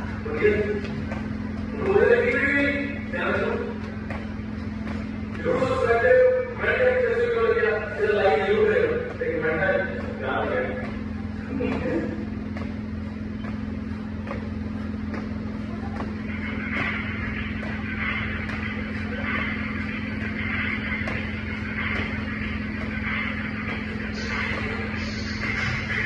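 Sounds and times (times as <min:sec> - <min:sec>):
feet thudding on hard floor: 0:00.0 - 0:06.0, 0:08.8 - 0:25.0
steady low hum: 0:00.0 - 0:26.0.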